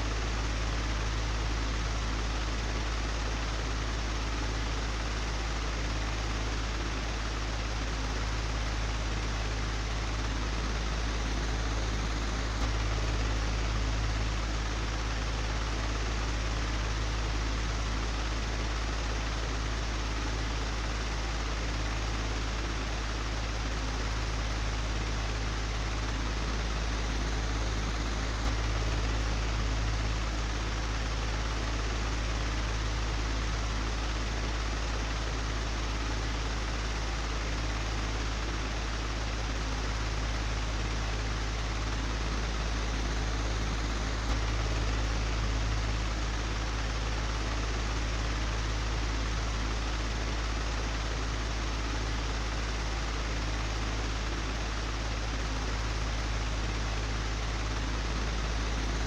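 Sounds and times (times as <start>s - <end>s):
electric fan humming: 5.8s - 59.0s.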